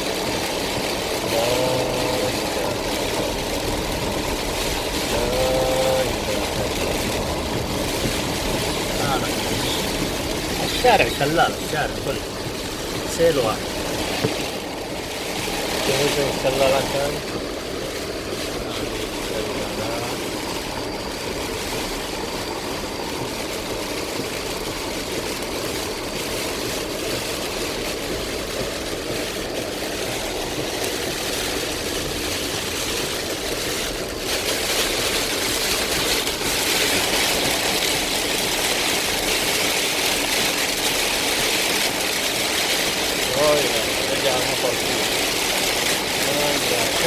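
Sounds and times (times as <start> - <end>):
car driving on flooded road: 0.0 - 47.0
heavy rain on car: 0.0 - 47.0.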